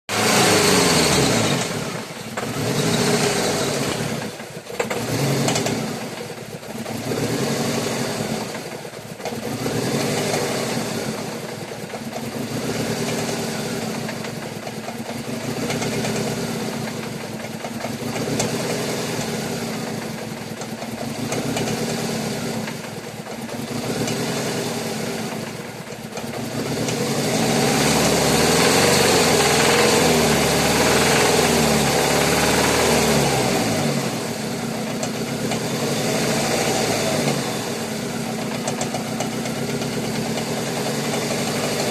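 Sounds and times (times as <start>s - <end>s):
car engine running: 0.1s - 41.9s.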